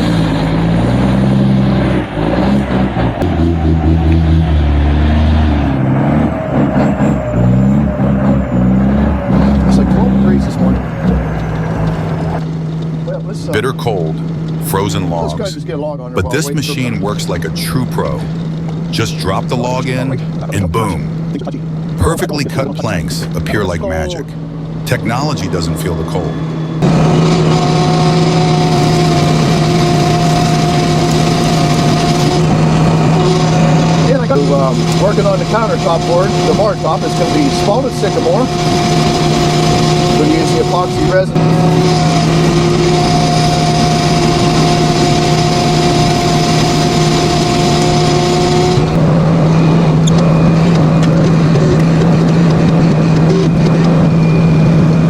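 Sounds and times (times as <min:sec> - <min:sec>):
machine motor humming: 0:08.9 - 0:55.0.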